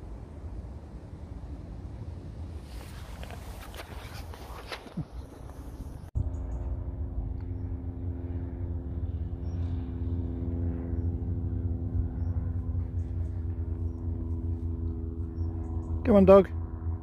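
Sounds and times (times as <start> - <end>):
propeller aircraft engine droning: 0.0 - 17.0.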